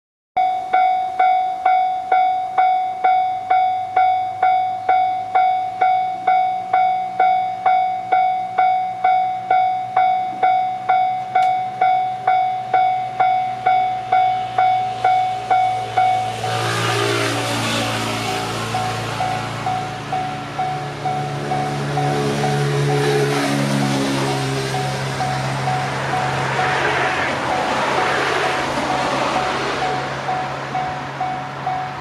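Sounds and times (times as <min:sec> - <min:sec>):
level-crossing electronic bell: 0:00.4 - 0:32.0
train arriving: 0:00.4 - 0:32.0.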